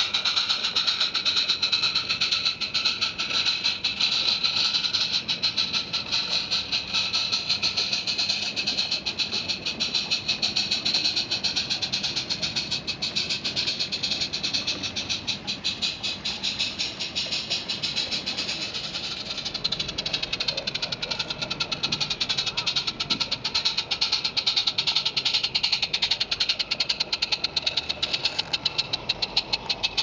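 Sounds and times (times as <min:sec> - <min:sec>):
model train clattering on track: 0:00.0 - 0:30.0
steam hiss: 0:00.0 - 0:30.0.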